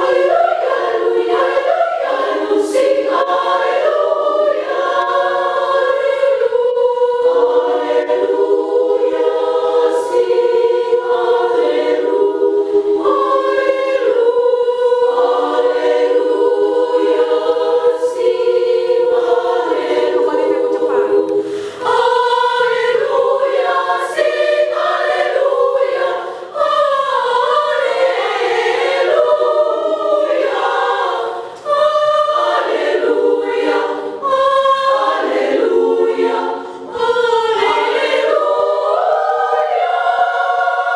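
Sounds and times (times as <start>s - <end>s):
women's choir singing a cappella: 0.0s - 40.9s.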